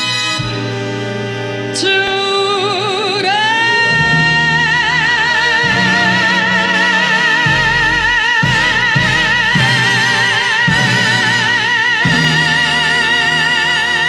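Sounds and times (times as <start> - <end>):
orchestra playing: 0.0 - 14.0
woman singing with vibrato: 1.6 - 14.0.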